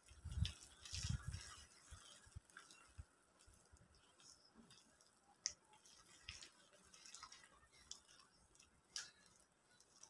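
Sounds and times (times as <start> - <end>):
batter squelching by hand: 0.0 - 10.0.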